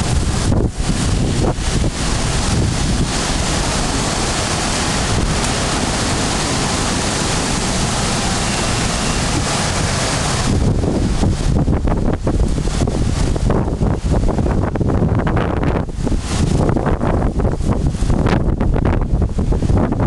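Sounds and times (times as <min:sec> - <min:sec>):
strong wind on microphone: 0:00.0 - 0:20.0.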